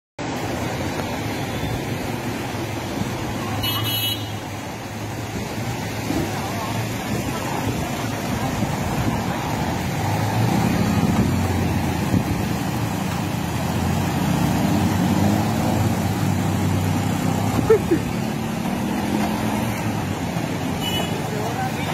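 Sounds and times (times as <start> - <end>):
engine hum: 0.2 - 21.9
tyres through floodwater: 0.2 - 21.9.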